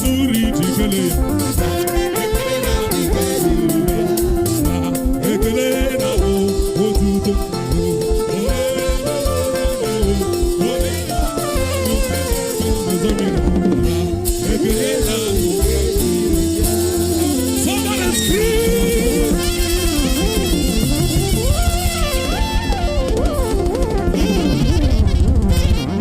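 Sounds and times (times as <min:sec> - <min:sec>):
person singing: 0:00.0 - 0:24.8
gospel band playing: 0:00.0 - 0:26.0.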